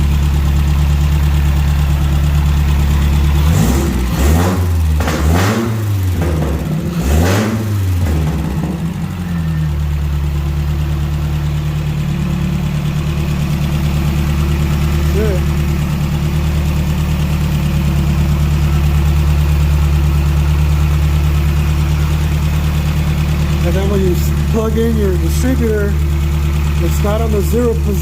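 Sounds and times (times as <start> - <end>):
engine idling and revving: 0.0 - 28.0.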